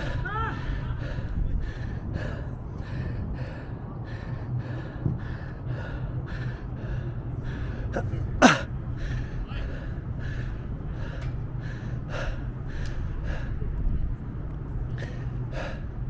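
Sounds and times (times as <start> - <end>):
heavy rhythmic breathing: 0.0 - 16.0
steady low hum: 0.0 - 16.0.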